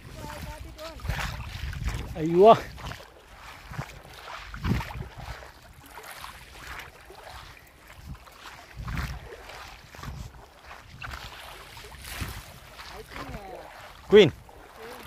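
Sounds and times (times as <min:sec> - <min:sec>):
seawater sloshing: 0:00.0 - 0:15.0
wind rumbling on microphone: 0:00.0 - 0:15.0.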